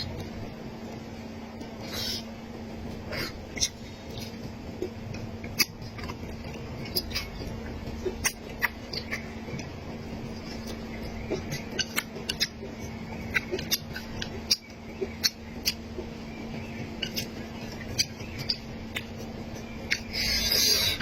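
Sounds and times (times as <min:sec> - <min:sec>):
steady low hum: 0:00.0 - 0:21.0
person chewing crunchy food: 0:02.9 - 0:21.0.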